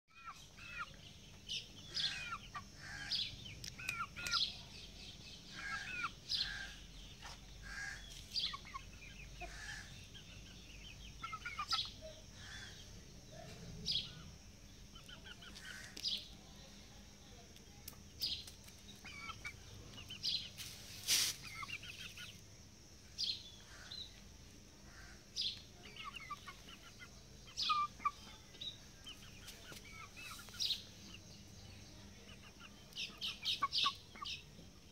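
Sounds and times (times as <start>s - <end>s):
chickens clucking and chirping: 0.2s - 34.9s.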